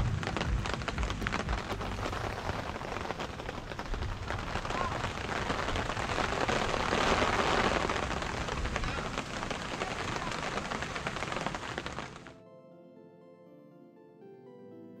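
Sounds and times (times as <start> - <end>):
soft keyboard music: 0.0 - 5.3, 6.4 - 15.0
rain pattering on a tent: 0.0 - 12.4.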